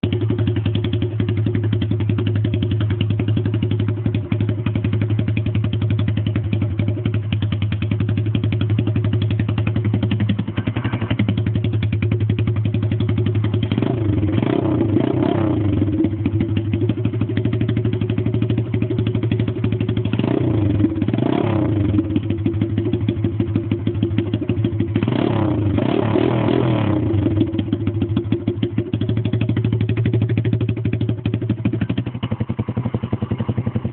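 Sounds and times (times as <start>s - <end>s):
motorbike engine idling and revving: 0.0s - 33.9s.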